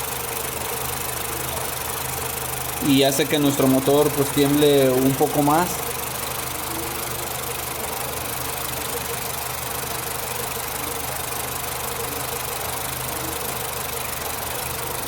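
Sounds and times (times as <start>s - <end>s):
car engine idling rough: 0.0s - 15.0s.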